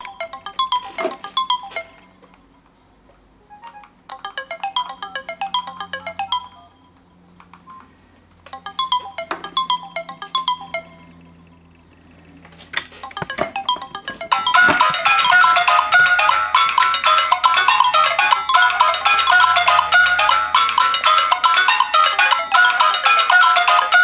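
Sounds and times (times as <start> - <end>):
phone ringtone melody: 0.0 - 11.8, 12.8 - 24.0.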